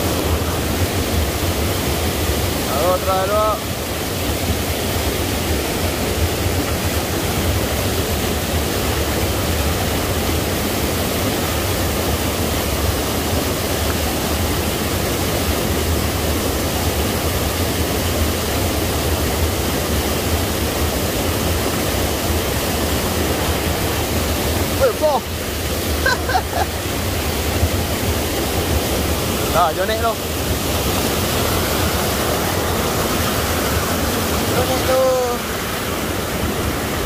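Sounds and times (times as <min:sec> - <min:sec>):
waterfall pouring over rocks: 0:00.0 - 0:37.0.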